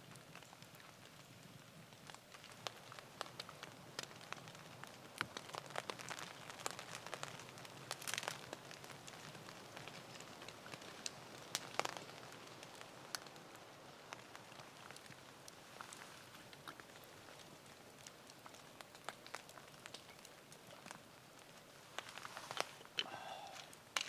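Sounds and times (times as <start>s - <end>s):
rain pattering on a tarp: 0.0s - 24.0s.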